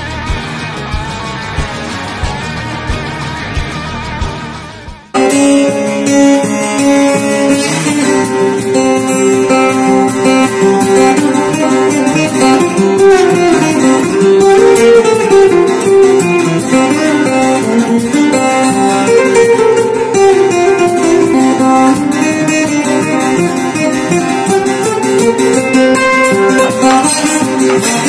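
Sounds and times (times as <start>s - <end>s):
slide acoustic guitar fingerstyle: 0.0s - 28.0s.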